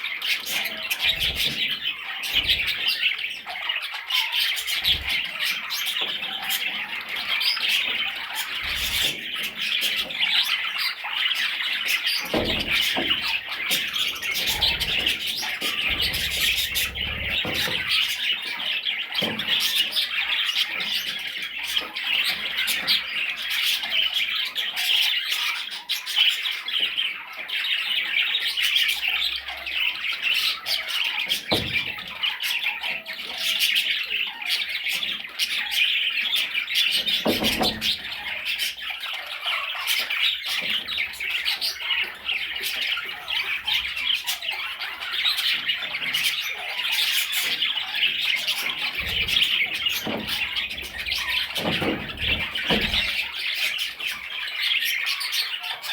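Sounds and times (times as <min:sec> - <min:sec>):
budgerigar chattering and warbling: 0:00.0 - 0:55.9.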